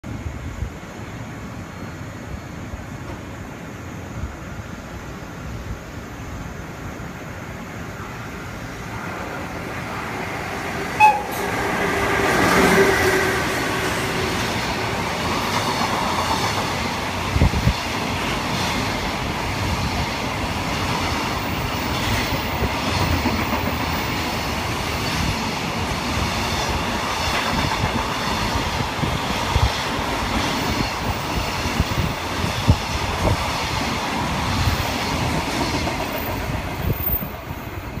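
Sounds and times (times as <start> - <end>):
electric locomotive whine: 0.2 - 38.0.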